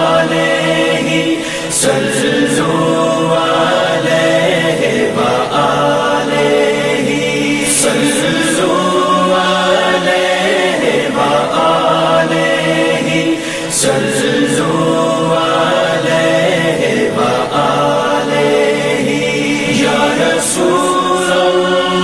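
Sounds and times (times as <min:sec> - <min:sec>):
group of voices singing unaccompanied: 0:00.0 - 0:22.0.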